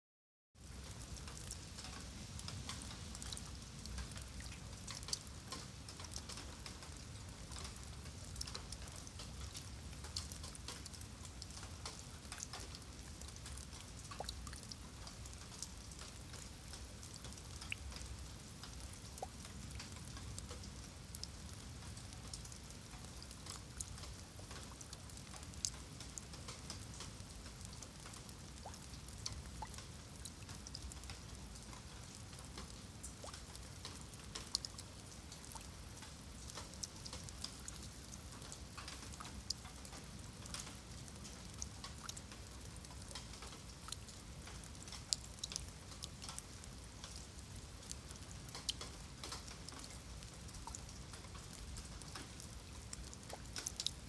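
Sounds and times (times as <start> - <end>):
rain on concrete and puddles: 0.6 - 54.0.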